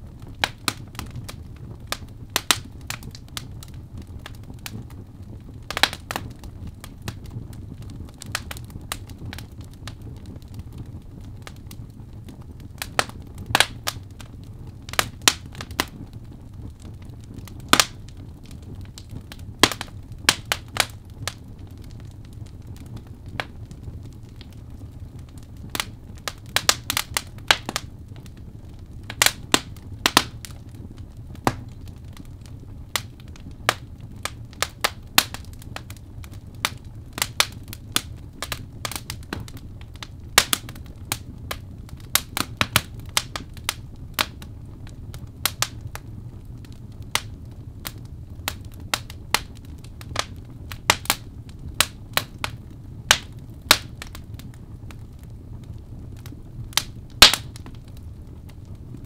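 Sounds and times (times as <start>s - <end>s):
logs crackling in fireplace: 0.0s - 59.0s.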